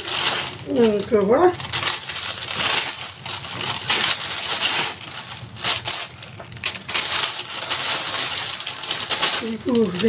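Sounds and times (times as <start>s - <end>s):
rustling and crinkling on counter: 0.0s - 10.0s.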